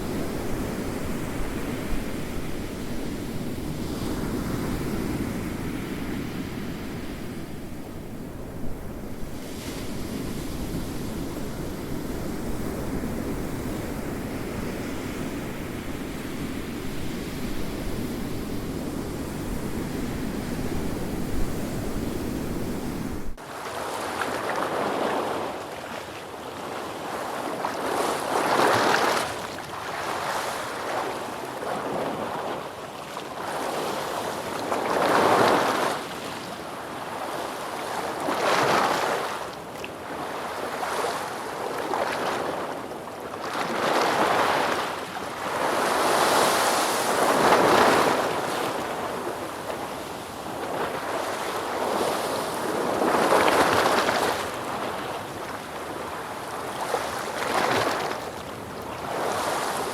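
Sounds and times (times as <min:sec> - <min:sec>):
steady low rush of ocean: 0:00.0 - 0:59.9
waves breaking and washing in: 0:00.0 - 0:59.9.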